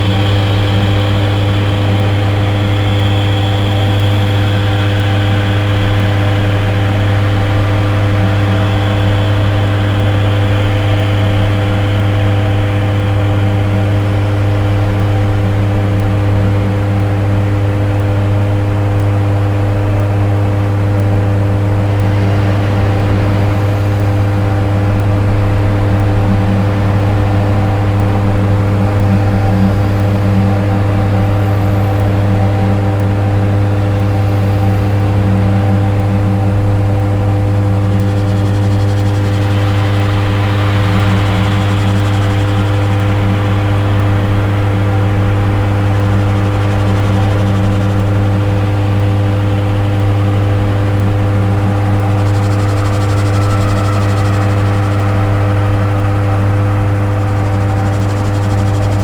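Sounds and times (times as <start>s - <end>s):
sustained higher tones: 0.0s - 16.4s, 21.2s - 59.0s
low electronic drone: 0.0s - 59.0s
noisy hiss: 0.0s - 59.0s.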